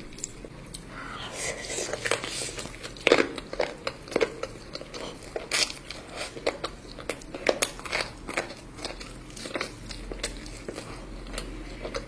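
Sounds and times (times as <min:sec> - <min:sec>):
wet chewing and biting: 0:01.5 - 0:12.0.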